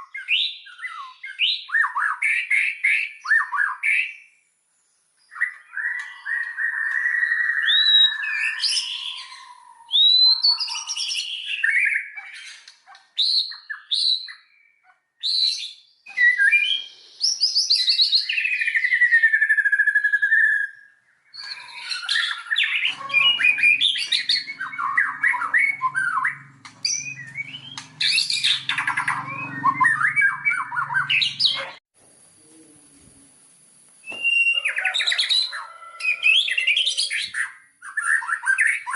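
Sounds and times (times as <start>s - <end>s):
songbird whistling and trilling: 0.0s - 4.4s, 5.2s - 31.8s, 34.0s - 38.9s.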